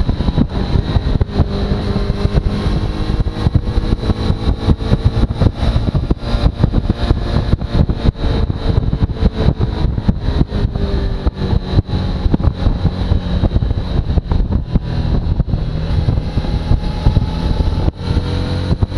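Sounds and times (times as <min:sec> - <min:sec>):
motorcycle engine running: 0:00.0 - 0:18.9
wind buffeting on microphone: 0:00.0 - 0:18.9.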